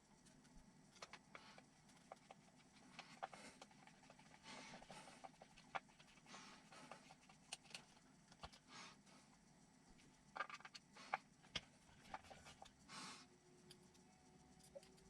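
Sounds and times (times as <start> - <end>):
faint clicks of small parts: 0.1 - 15.0.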